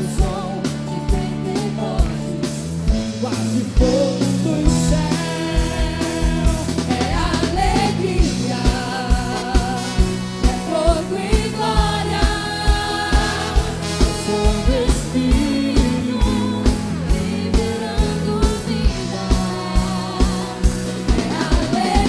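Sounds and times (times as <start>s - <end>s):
gospel worship band music: 0.0s - 22.0s
steady drum beat: 0.0s - 22.0s.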